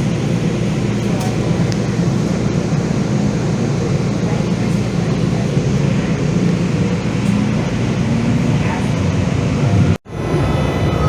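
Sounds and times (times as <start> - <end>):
bus interior low rumble: 0.0 - 11.0.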